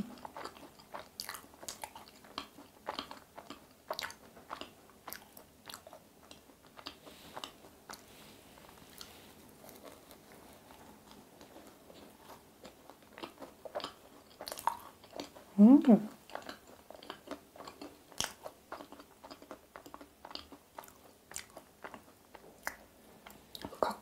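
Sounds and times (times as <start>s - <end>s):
chewing with small crunches: 0.0s - 15.5s, 16.1s - 24.0s.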